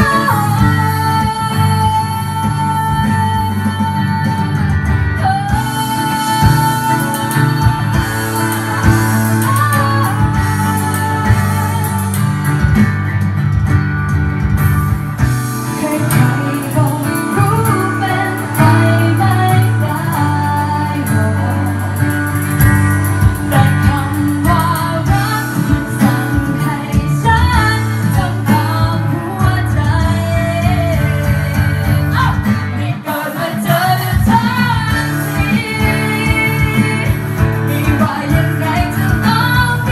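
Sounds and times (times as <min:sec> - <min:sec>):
woman singing into a microphone: 0:00.0 - 0:12.9, 0:15.3 - 0:39.9
percussion played with sticks: 0:00.0 - 0:32.7, 0:33.4 - 0:39.9
acoustic guitar: 0:00.0 - 0:39.9.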